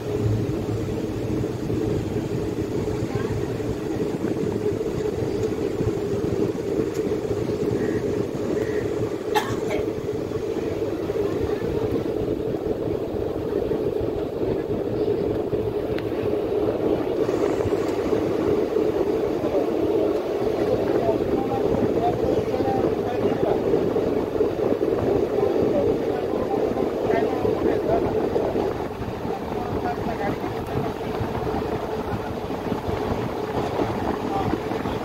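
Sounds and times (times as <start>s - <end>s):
train coach wheels rumbling: 0.0s - 35.0s.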